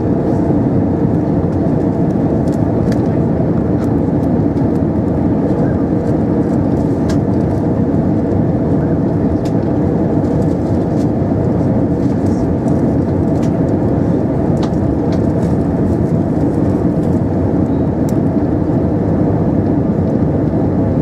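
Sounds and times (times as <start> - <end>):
jet engine hum in cabin: 0.0 - 21.0.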